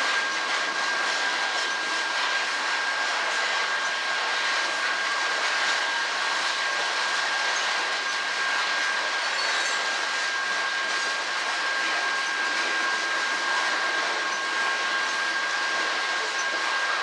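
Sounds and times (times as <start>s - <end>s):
steel wheels rushing on rails: 0.0s - 17.0s.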